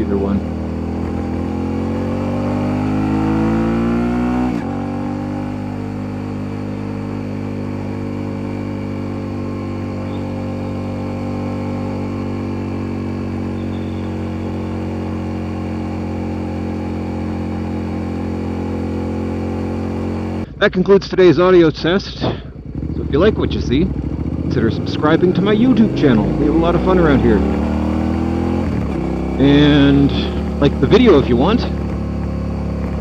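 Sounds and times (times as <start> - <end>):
motorcycle engine accelerating: 0.0 - 20.8, 22.2 - 33.0.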